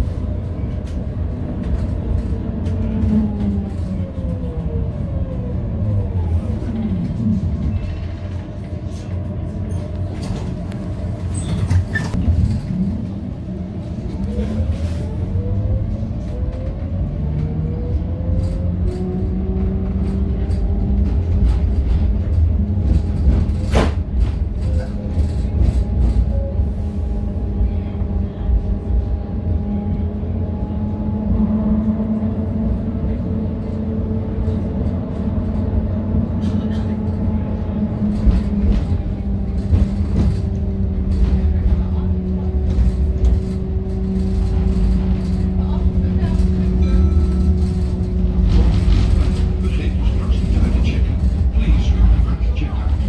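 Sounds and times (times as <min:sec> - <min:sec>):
tram motor hum and rumble: 0:00.0 - 0:53.0.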